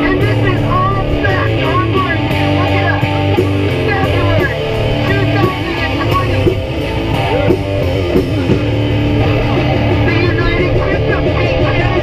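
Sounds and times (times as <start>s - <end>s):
drum kit: 0.0s - 12.0s
electric guitar: 0.0s - 12.0s.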